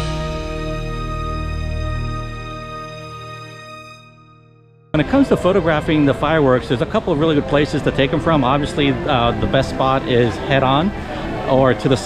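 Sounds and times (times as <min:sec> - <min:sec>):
soft sustained music: 0:00.0 - 0:12.0.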